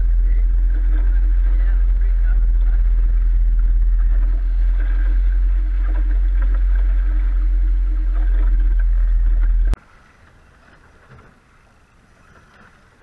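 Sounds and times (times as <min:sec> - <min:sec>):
outboard motor droning: 0:00.0 - 0:13.0
water and wake noise: 0:00.0 - 0:13.0.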